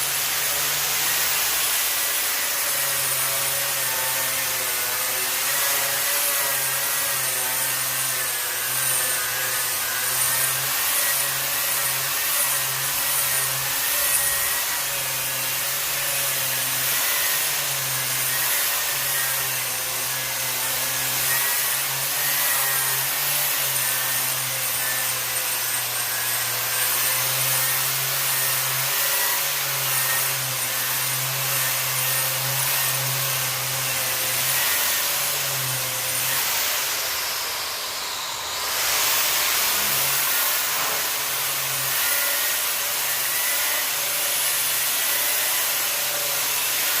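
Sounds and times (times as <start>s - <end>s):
angle grinder grinding steel: 0.0s - 47.0s.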